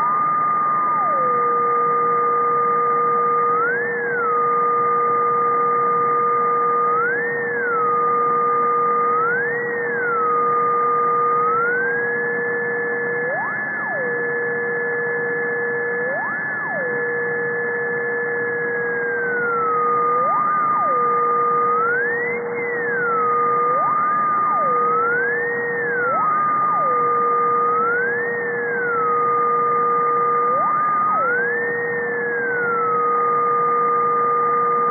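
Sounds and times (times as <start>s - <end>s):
low electronic tone: 0.0s - 34.9s.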